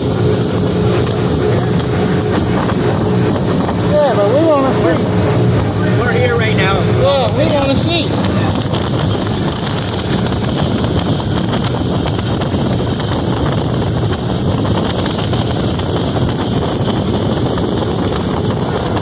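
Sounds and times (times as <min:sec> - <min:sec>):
boat motor: 0:00.0 - 0:19.0
water noise: 0:00.0 - 0:19.0
wind buffeting microphone: 0:00.0 - 0:19.0.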